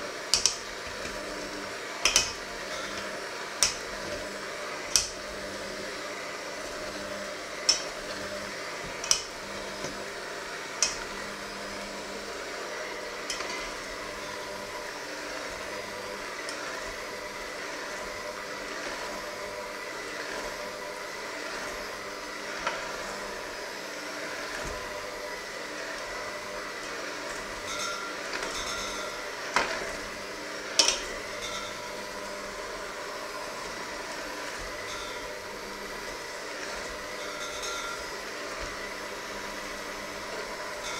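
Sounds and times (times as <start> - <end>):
electric hand mixer running: 0.0 - 40.9.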